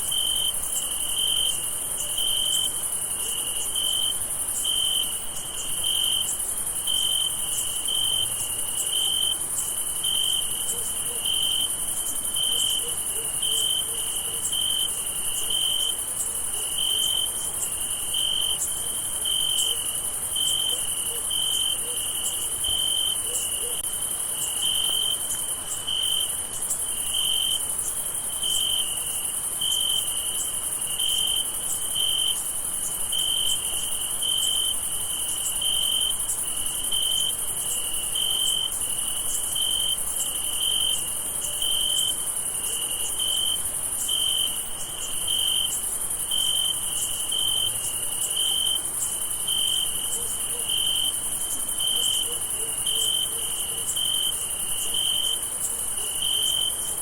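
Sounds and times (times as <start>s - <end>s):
crickets chirping: 0.0s - 57.0s
high insect trill: 0.0s - 57.0s.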